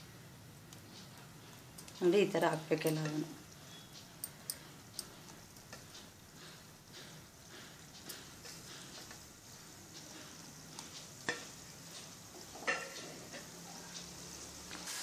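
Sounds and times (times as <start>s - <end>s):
dough frying in oil: 0.0s - 15.0s.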